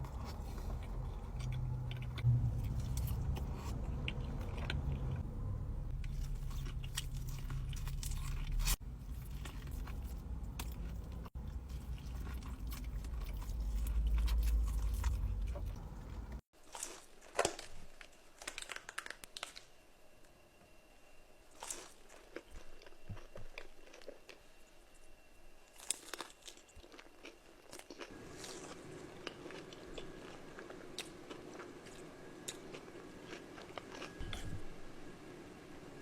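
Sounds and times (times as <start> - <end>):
crunchy food being chewed: 0.0 - 5.2, 5.9 - 19.7, 21.5 - 25.1, 25.7 - 34.5
faint steady hum: 0.0 - 16.4, 17.4 - 36.0.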